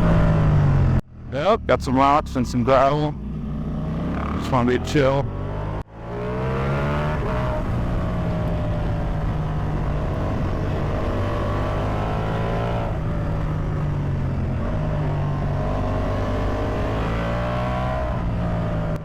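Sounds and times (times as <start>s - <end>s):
motorcycle engine running: 0.0s - 17.2s
wind and road rush: 0.0s - 19.0s.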